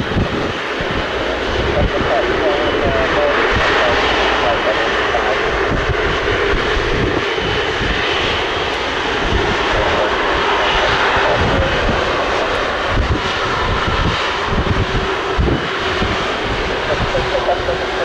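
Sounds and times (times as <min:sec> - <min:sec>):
jet engines whining: 0:00.0 - 0:18.0.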